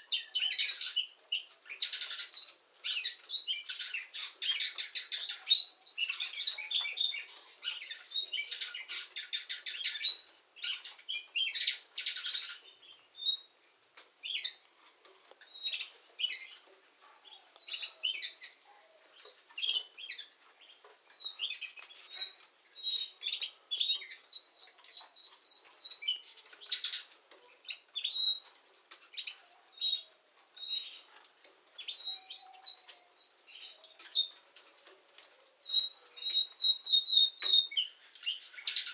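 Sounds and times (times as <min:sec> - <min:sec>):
canary singing: 0:00.0 - 0:13.6, 0:15.4 - 0:38.9.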